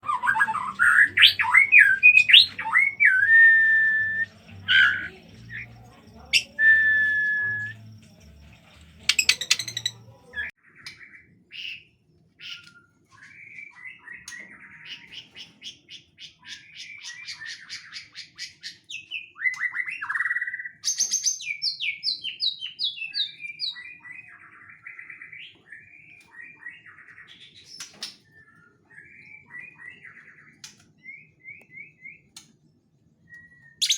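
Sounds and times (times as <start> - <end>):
bird singing whistles and trills: 0.0 - 32.4, 33.1 - 33.9.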